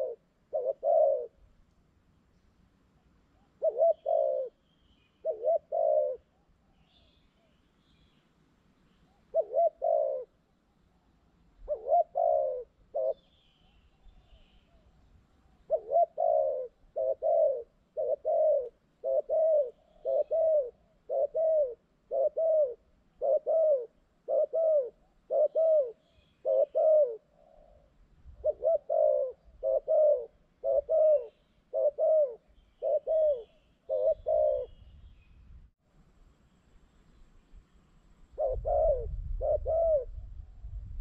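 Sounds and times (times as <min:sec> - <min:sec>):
dove cooing: 0:00.0 - 0:01.5, 0:03.0 - 0:04.6, 0:05.2 - 0:07.6, 0:09.1 - 0:34.9, 0:38.3 - 0:40.8.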